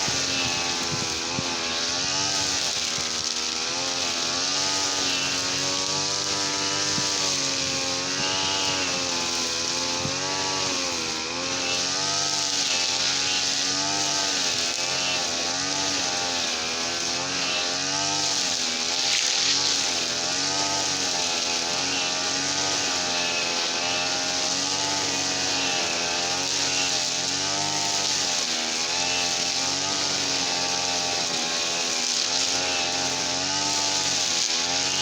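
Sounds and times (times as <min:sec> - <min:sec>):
brush cutter engine revving: 0:00.0 - 0:35.0.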